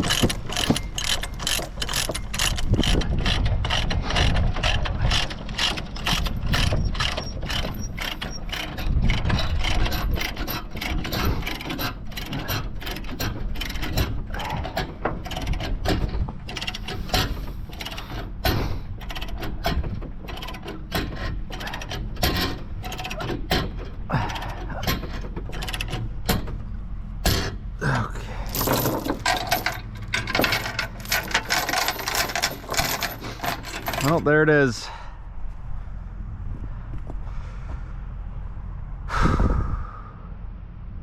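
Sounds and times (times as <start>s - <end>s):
low engine rumble: 0.0s - 41.0s.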